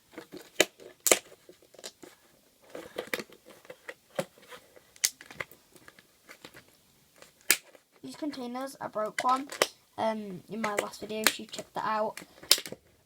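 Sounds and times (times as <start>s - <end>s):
plastic containers clicking and knocking: 0.1s - 8.0s, 9.0s - 9.8s, 10.5s - 13.0s.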